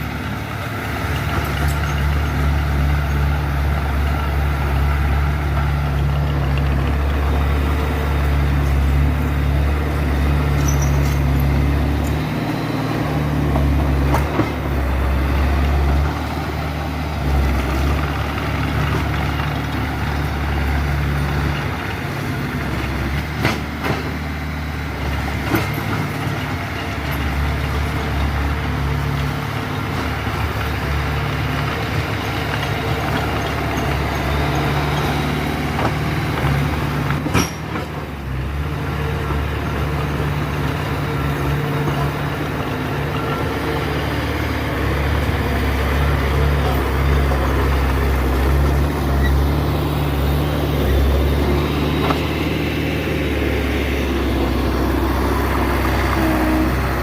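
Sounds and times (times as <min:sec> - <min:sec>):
heavy diesel machine engine: 0:00.0 - 0:57.0.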